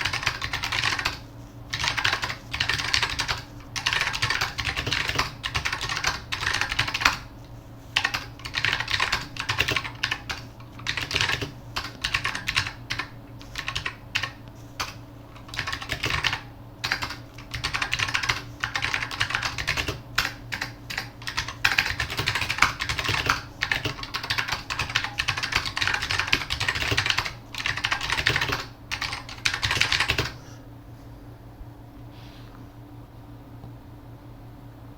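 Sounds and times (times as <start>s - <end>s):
clicky mechanical keyboard typing: 0.0s - 7.3s, 8.0s - 30.4s.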